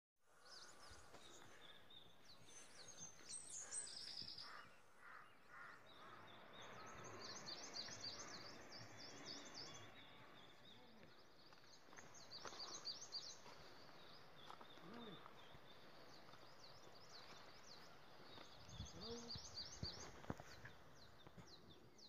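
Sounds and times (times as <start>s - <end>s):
birds chirping: 0.3s - 22.0s.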